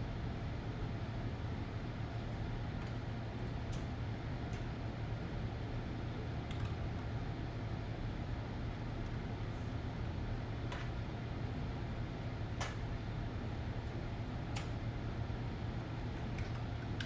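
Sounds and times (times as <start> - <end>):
fan humming and hissing: 0.0 - 17.0.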